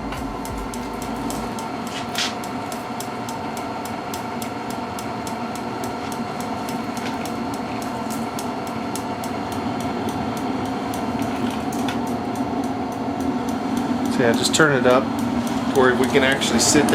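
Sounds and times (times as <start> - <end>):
heater fan and burner hum: 0.0 - 16.9
igniter clicking: 0.0 - 16.9.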